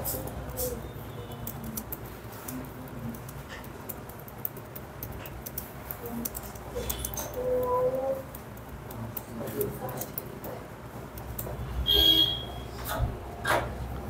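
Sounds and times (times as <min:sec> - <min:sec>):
pens scratching on paper: 0:00.0 - 0:11.9.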